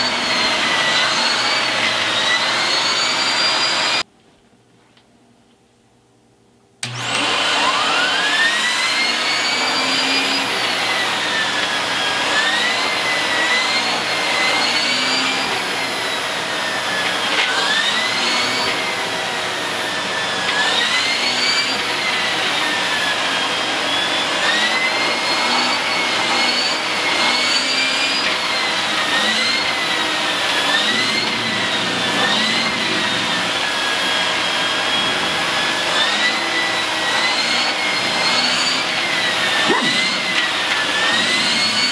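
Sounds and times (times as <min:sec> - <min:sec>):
vacuum cleaner motor whine: 0:00.0 - 0:04.1, 0:06.8 - 0:41.9.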